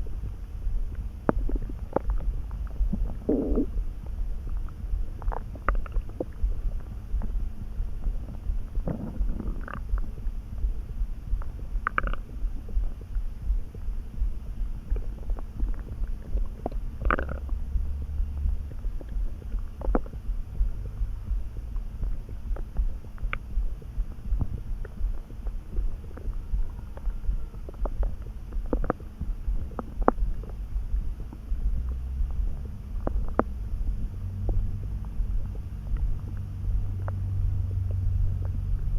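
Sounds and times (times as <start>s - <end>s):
stomach rumbling and gurgling: 0.0s - 38.9s.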